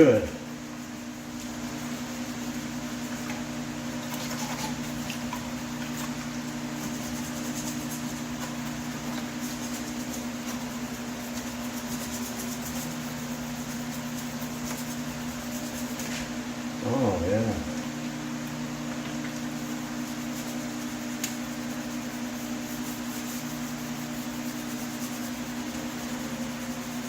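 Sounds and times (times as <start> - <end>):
scrubbing on metal: 0.0 - 16.3, 19.5 - 27.0
machine hum: 0.0 - 27.0.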